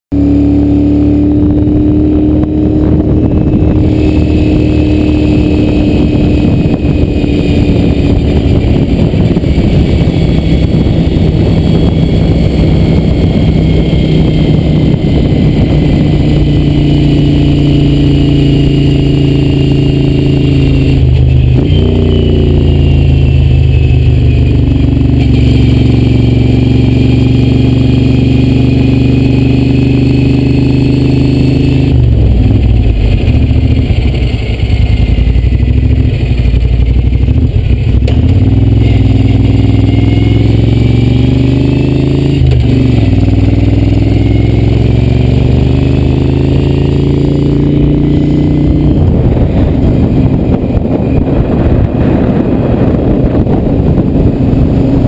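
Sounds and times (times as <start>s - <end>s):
motorcycle engine running: 0.1s - 55.0s
wind on microphone: 0.2s - 55.0s.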